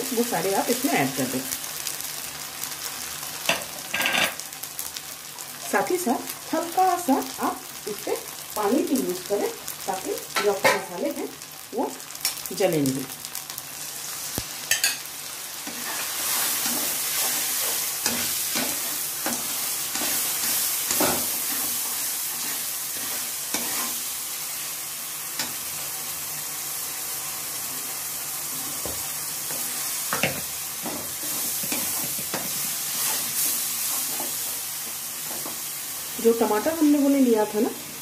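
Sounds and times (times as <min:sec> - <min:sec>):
onion and spices sizzling in oil: 0:00.0 - 0:38.0.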